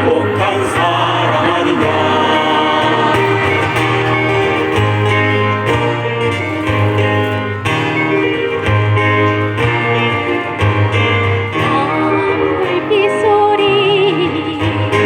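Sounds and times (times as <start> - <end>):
guitar: 0.0 - 15.0
keyboard: 0.0 - 15.0
person singing: 0.0 - 15.0.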